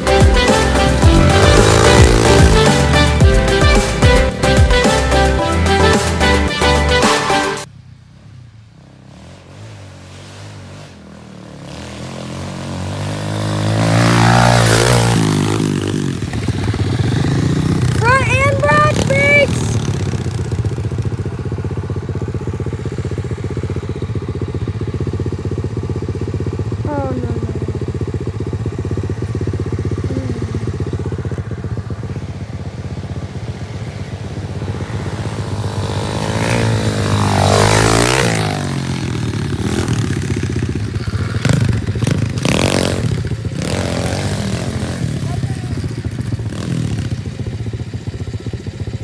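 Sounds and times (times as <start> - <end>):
dirt bike engine running: 0.0 - 49.0.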